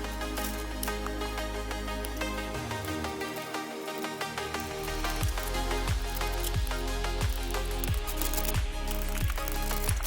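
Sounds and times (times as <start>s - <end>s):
music with bass and light beat: 0.0s - 10.0s.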